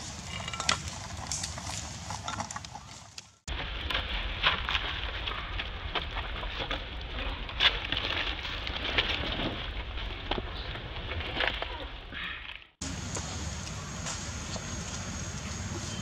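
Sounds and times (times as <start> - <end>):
rustling dry leaves: 0.0 - 16.0.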